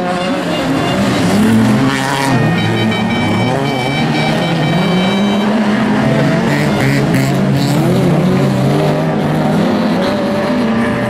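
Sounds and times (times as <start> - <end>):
race car engines running hard: 0.0 - 11.0.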